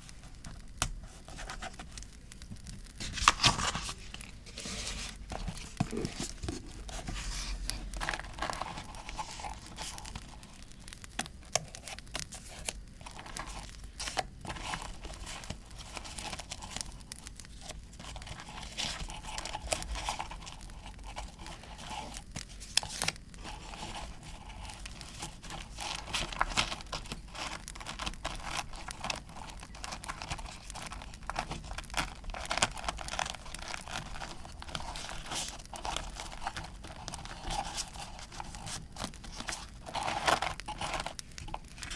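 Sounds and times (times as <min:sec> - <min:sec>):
paper tearing and crinkling: 0:03.0 - 0:10.6, 0:11.5 - 0:41.9.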